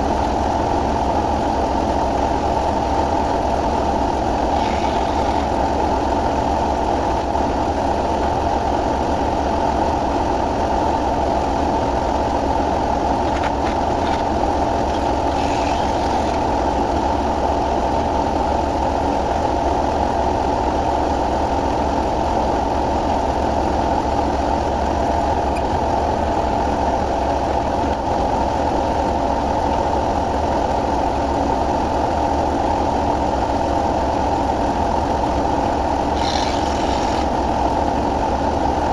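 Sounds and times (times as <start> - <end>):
engine idling: 0.0 - 31.7, 32.7 - 38.9.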